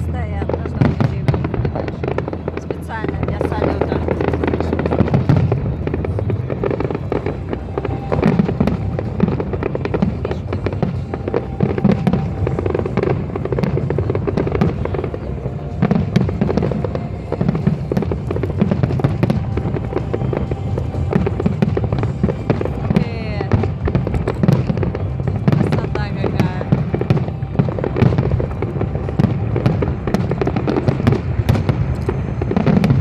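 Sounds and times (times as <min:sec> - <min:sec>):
fireworks bangs and crackling: 0:00.0 - 0:33.0
low rumble: 0:00.0 - 0:33.0.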